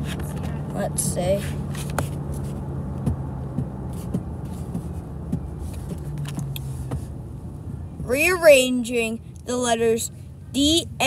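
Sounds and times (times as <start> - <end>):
car engine hum from inside: 0.0 - 11.0.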